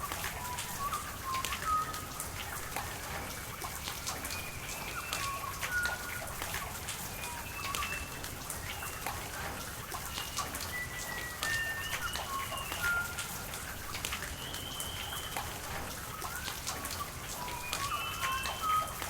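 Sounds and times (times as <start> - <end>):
rain falling with drop impacts: 0.0 - 19.0.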